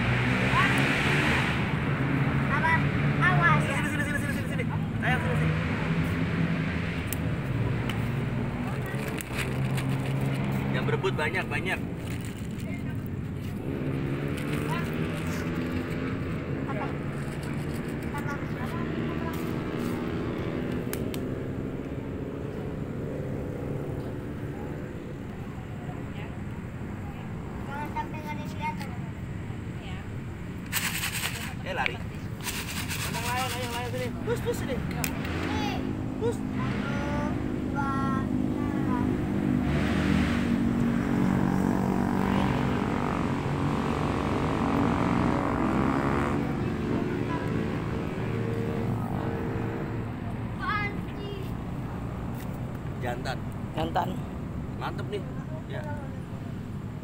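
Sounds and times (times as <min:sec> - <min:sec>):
engine and traffic rumble: 0:00.0 - 0:57.0.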